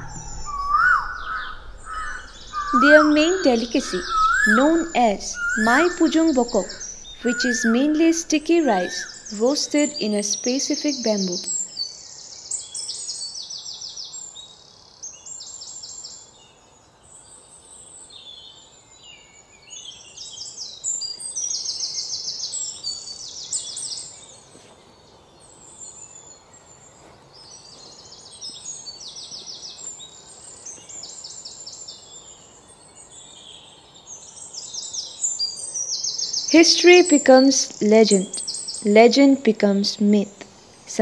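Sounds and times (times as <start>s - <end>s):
birds trilling and chirping: 0.0s - 14.1s, 20.4s - 41.0s.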